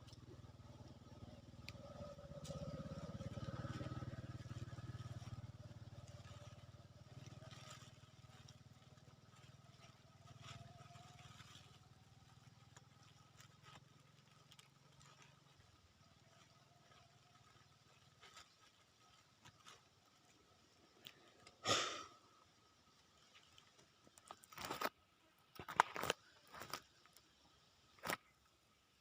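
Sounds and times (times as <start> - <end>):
faint engine drone: 0.0 - 24.9.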